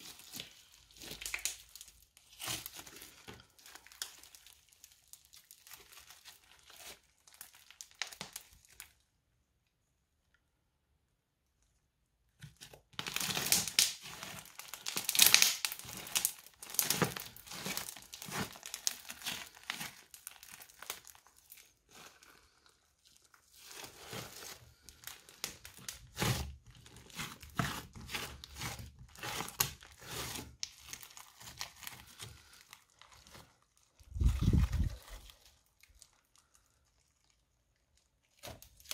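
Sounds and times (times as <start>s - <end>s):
crunchy slime crackling and popping: 0.0s - 9.0s, 12.4s - 38.9s.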